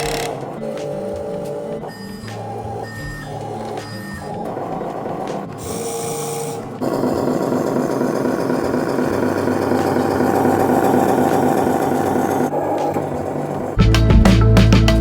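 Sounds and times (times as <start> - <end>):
toy truck electric motor whirring: 0.0 - 13.8.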